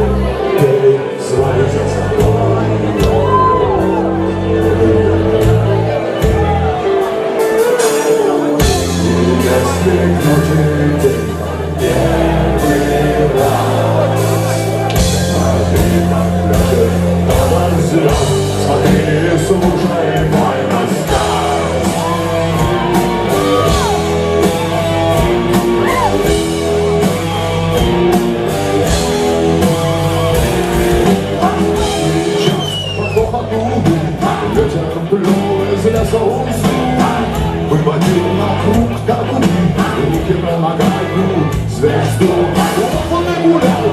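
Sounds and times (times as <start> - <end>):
bass and guitar notes: 0.0 - 43.9
live rock band playing: 0.0 - 43.9.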